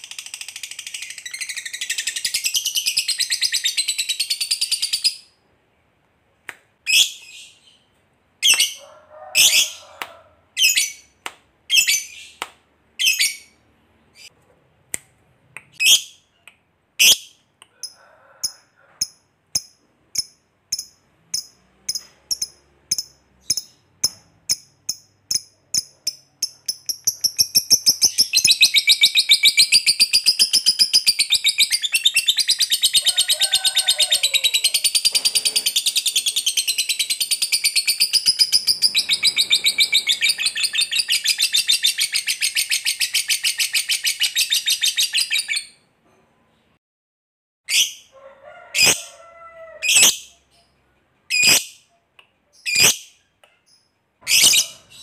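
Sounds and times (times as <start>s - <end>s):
lovebird chirping and trilling: 0.0s - 5.3s, 6.8s - 8.8s, 9.4s - 9.8s, 10.6s - 12.4s, 13.0s - 14.3s, 15.7s - 16.4s, 17.0s - 33.2s, 34.0s - 45.8s, 47.7s - 48.1s, 49.8s - 51.9s, 52.5s - 55.0s.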